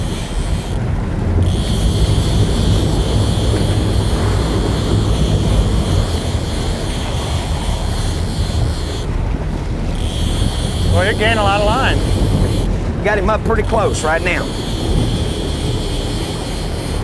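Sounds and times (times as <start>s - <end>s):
boat engines rumbling: 0.0s - 17.0s
water noise: 0.0s - 17.0s
wind: 0.0s - 17.0s.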